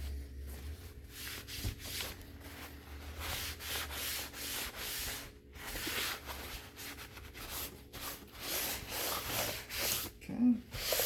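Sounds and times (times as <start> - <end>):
paper towel wiping plastic: 0.0 - 11.0.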